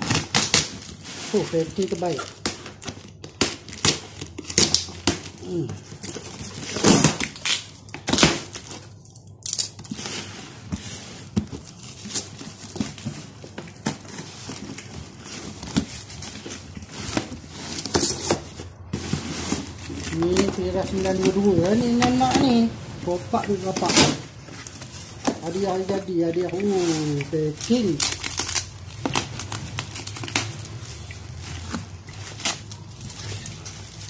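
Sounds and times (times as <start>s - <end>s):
packing tape ripping: 0.0s - 10.8s, 11.7s - 22.5s, 23.6s - 34.0s
cardboard crinkling: 0.0s - 34.0s.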